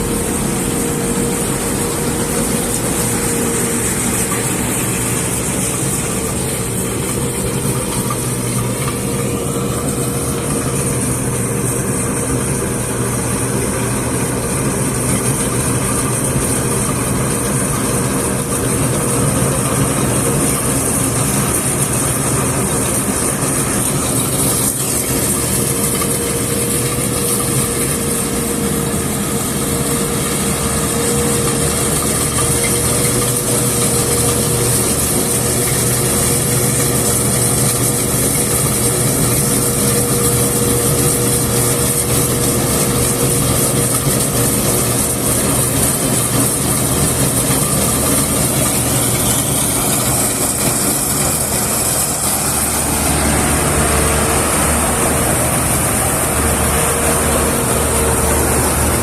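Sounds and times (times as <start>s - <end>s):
combine harvester droning: 0.0s - 59.0s
machinery whine: 0.0s - 59.0s.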